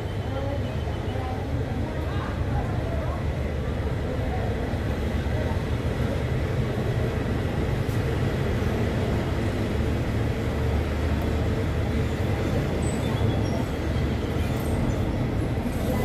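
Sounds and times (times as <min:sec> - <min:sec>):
train rumbling slowly: 0:00.0 - 0:16.0.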